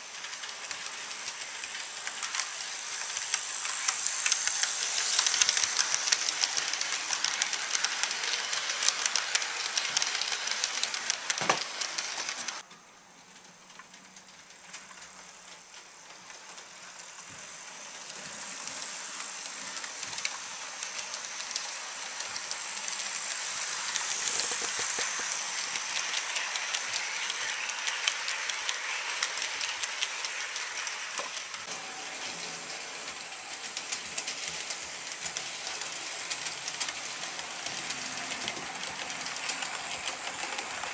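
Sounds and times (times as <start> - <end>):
model train whirring and clicking: 0.0 - 40.9.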